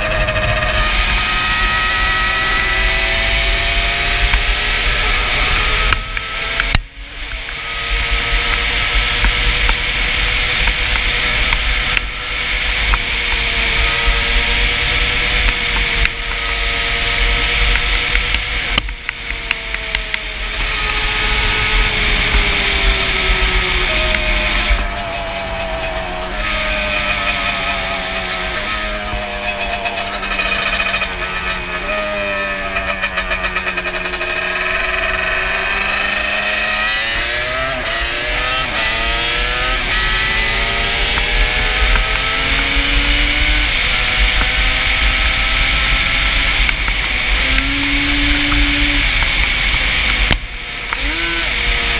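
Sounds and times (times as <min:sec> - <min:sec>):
two-stroke engine running: 0:00.0 - 0:51.9.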